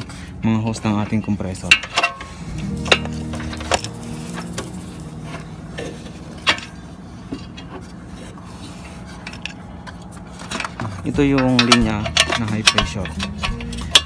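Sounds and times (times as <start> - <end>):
steady low hum: 0.0 - 14.0
metal hose fittings clinking: 0.9 - 14.0.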